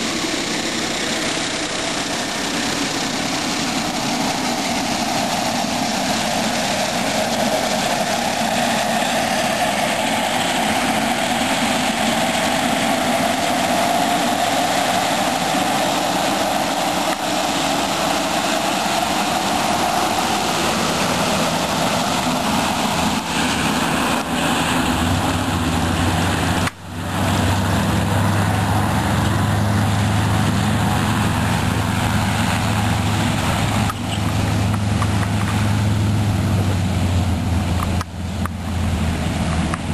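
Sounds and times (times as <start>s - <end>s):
deep engine hum: 0.0s - 39.9s
propeller aircraft engine: 0.0s - 39.9s.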